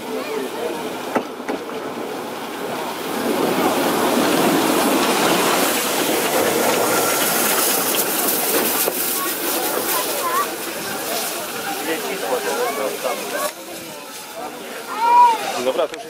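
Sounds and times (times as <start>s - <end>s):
steam locomotive passing: 0.0s - 16.0s.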